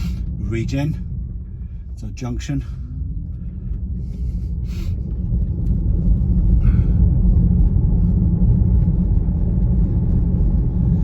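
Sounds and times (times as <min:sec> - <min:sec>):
road and tyre rumble in car cabin: 0:00.0 - 0:11.0.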